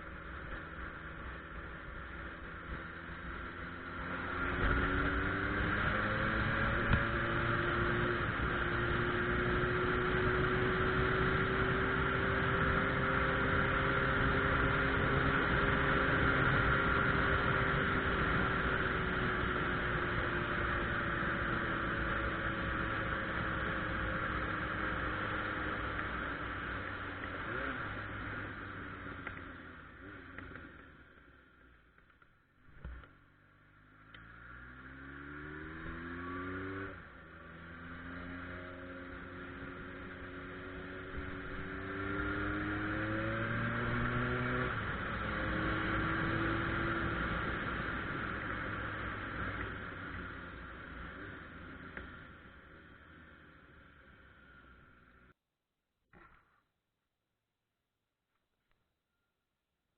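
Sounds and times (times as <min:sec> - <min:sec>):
motorcycle engine revving: 0:00.0 - 0:31.2, 0:32.7 - 0:55.3.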